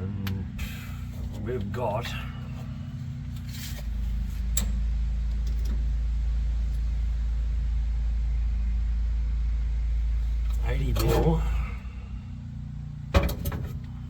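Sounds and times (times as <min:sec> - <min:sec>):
low mechanical rumble with hum: 0:00.0 - 0:14.0.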